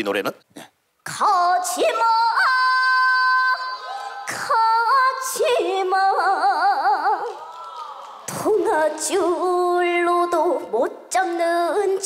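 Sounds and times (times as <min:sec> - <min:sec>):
girl singing: 0:01.0 - 0:07.5, 0:08.3 - 0:12.0.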